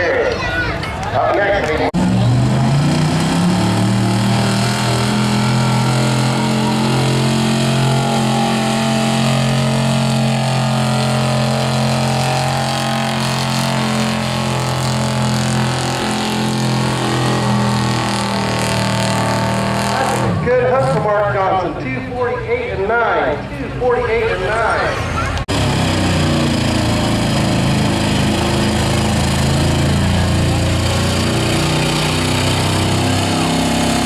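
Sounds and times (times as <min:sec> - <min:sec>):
truck engine revving under load: 0:01.6 - 0:34.0.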